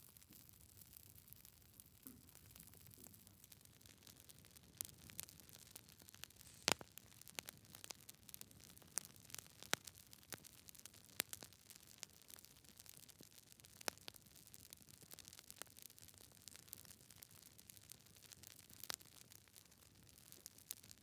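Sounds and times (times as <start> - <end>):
wood fire crackling: 0.2 - 21.0.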